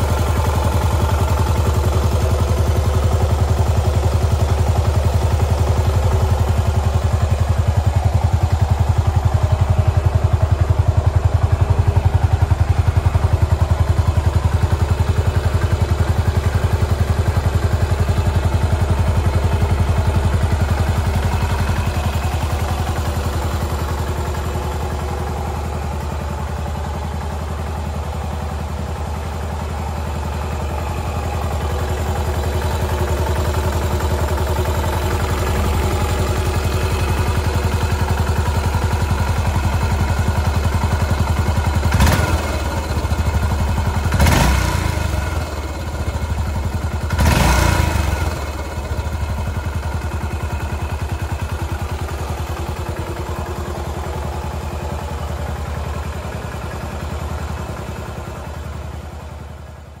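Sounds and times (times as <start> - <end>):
motorcycle engine idling and revving: 0.0 - 60.0.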